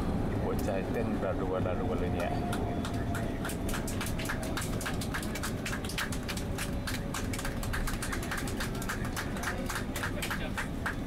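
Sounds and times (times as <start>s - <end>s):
low rumble of engines and airflow: 0.0s - 11.0s.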